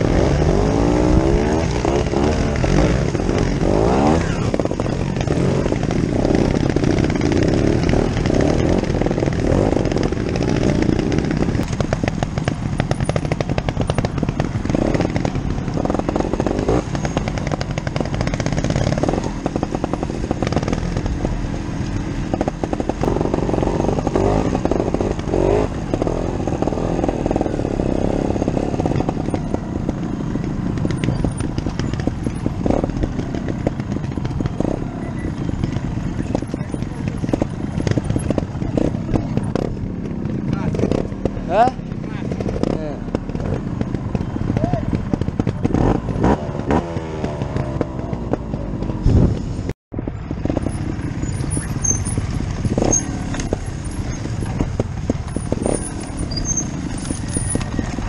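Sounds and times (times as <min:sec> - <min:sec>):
motorcycle engines popping: 0:00.0 - 0:58.0.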